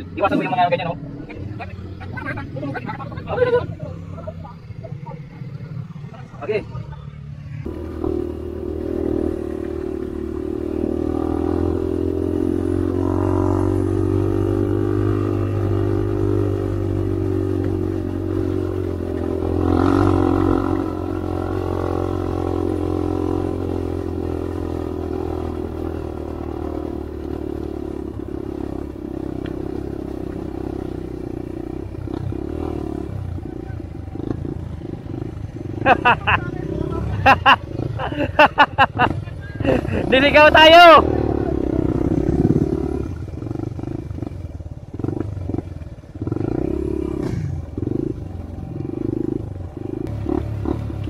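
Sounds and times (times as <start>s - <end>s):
dirt bike engine running: 0.0s - 51.0s.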